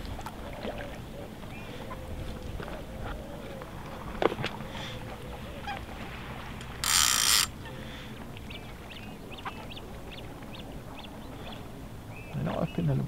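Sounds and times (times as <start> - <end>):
water birds chirping: 0.0 - 13.0.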